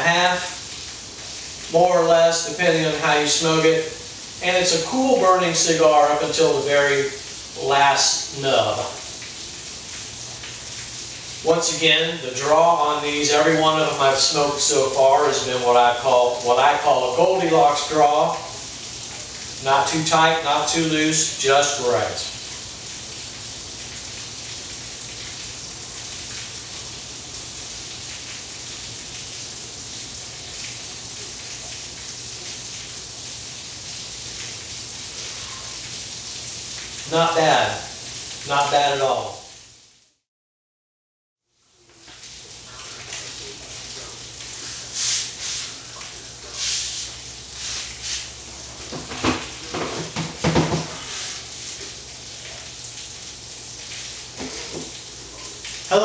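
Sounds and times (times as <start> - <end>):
steady background hiss: 0.0 - 39.8, 41.7 - 56.0.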